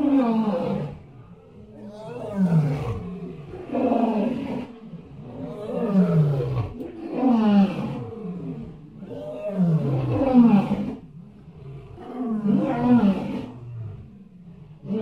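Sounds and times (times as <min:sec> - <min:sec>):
large animal deep calls: 0:00.0 - 0:15.0.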